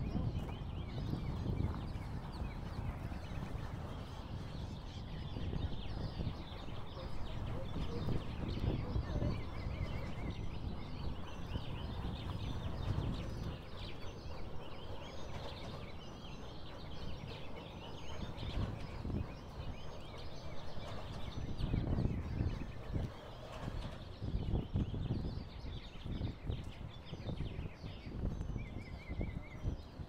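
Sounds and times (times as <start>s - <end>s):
birds calling: 0.0s - 30.0s
wind rumble on microphone: 0.0s - 30.0s.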